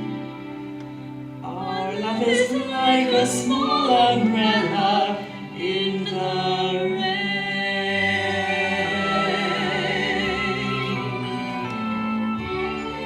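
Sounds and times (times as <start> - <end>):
orchestral accompaniment: 0.0 - 13.0
operatic singing with vibrato: 1.4 - 13.0.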